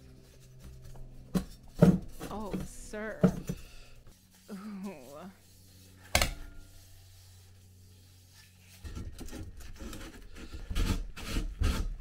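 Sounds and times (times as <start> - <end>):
metal pipe scraping: 1.5 - 12.0.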